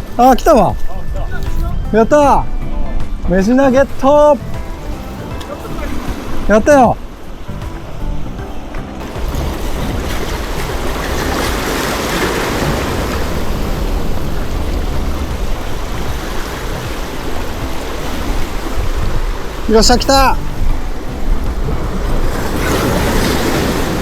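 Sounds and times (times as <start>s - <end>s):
sea waves breaking: 0.0s - 24.0s
wind rumbling on microphone: 0.0s - 24.0s.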